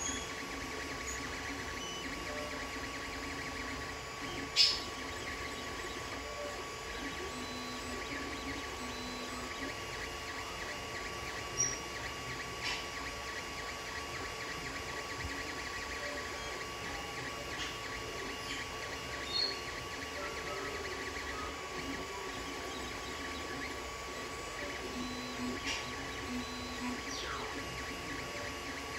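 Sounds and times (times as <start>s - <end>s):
printer fans and motors whirring: 0.0s - 28.9s.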